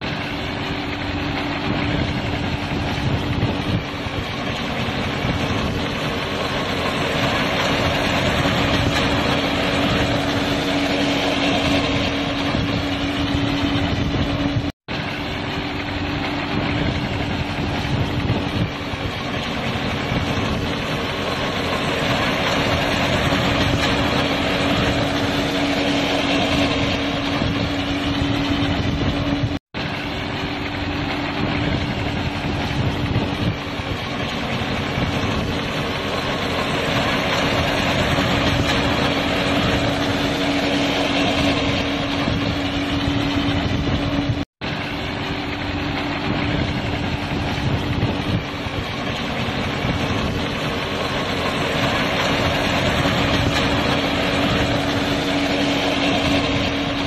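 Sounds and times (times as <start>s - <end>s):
baler machine running: 0.0s - 57.0s.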